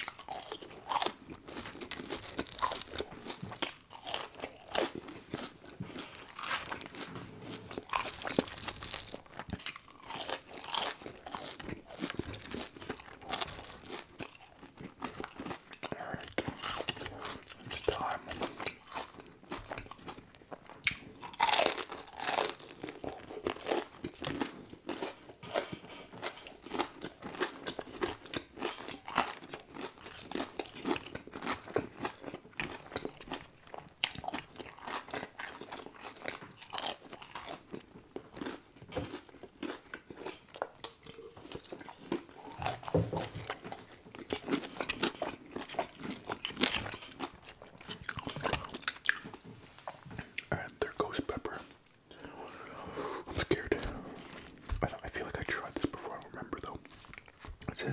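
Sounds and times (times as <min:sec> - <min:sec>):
crunchy chewing of fried chicken: 0:00.0 - 0:57.9.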